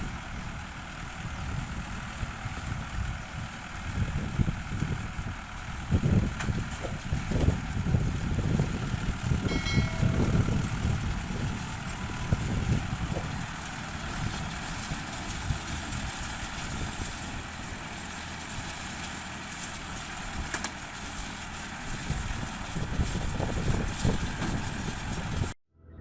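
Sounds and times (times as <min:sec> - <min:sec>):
tractor engine rumbling: 0:00.0 - 0:26.0.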